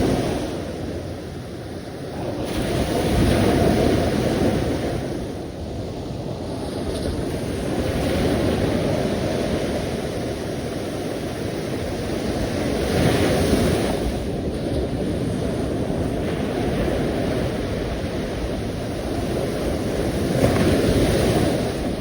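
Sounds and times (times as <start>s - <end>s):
sea waves washing ashore: 0.0s - 22.0s.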